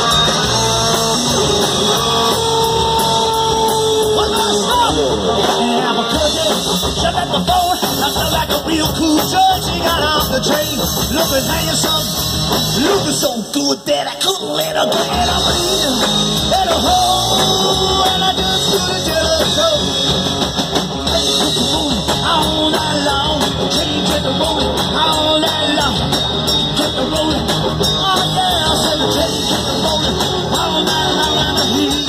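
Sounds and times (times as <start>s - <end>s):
person singing: 0.0s - 12.2s, 12.8s - 19.9s, 21.1s - 32.0s
bass guitar: 0.0s - 32.0s
drum kit: 0.0s - 32.0s
electric guitars: 0.0s - 32.0s.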